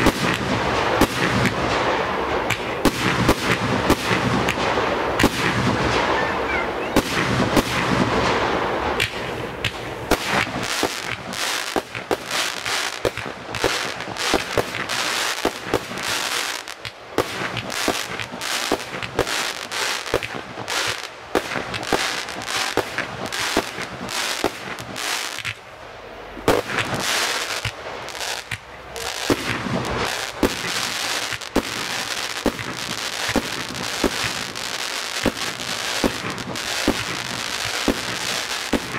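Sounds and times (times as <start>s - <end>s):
fireworks banging and crackling: 0.0s - 38.9s.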